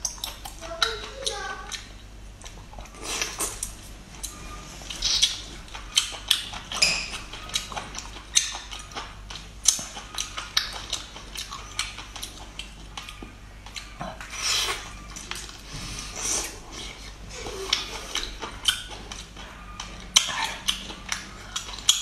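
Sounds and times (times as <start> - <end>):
biting and chewing: 0.0 - 22.0
sharp mouth clicks and smacks: 1.7 - 15.5, 17.7 - 22.0.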